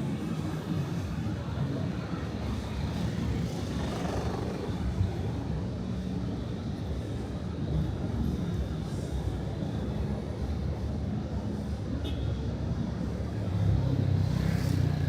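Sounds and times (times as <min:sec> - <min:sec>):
general hubbub: 0:00.0 - 0:15.0
low rumble of passing traffic: 0:00.0 - 0:15.0.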